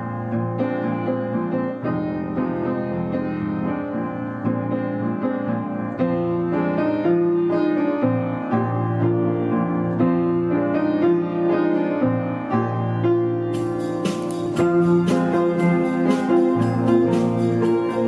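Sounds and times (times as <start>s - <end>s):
slow piano background music: 0.0s - 18.0s.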